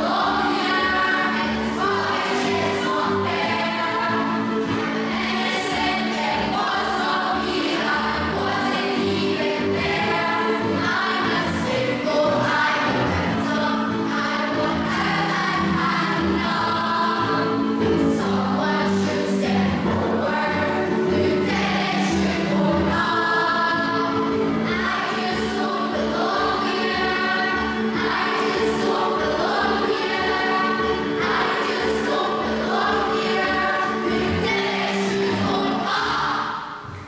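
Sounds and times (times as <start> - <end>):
youth chorus singing: 0.0 - 37.0.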